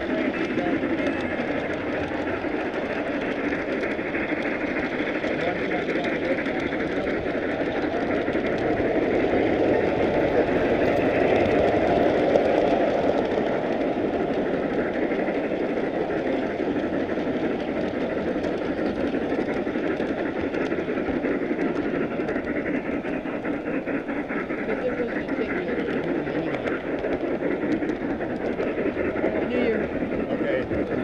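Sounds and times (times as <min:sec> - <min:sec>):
faint clicks of wheels: 0:00.0 - 0:31.0
model train wheels rolling on rails: 0:00.0 - 0:31.0.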